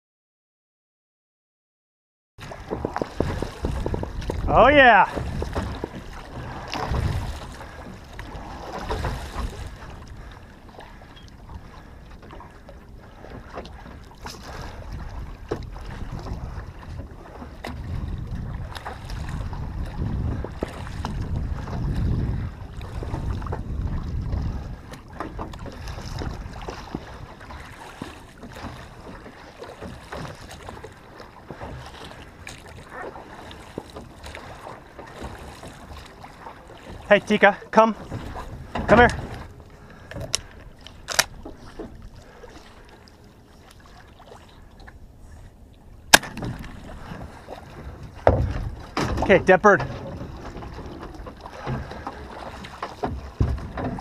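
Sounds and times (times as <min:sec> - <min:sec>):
wind rumbling on microphone: 0:02.4 - 0:37.4, 0:44.5 - 0:54.0
oars knocking: 0:02.4 - 0:43.0, 0:46.1 - 0:54.0
water lapping against boat hull: 0:02.4 - 0:54.0.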